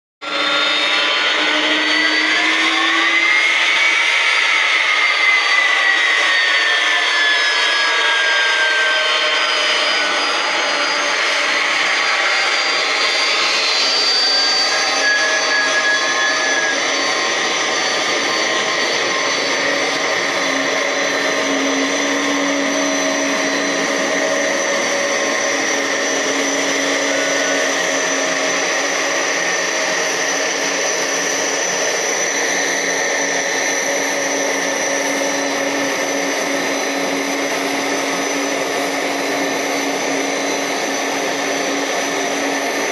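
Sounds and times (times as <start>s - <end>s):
jet engines whining at idle: 0.2s - 42.9s.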